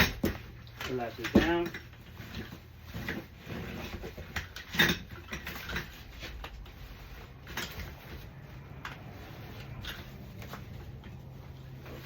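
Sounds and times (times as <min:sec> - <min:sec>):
playard frame knocks and rustles: 0:00.0 - 0:12.0.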